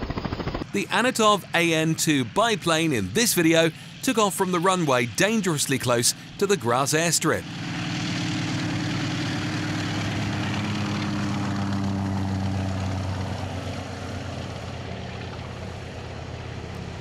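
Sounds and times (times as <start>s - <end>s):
propeller plane engine drone: 0.0s - 17.0s.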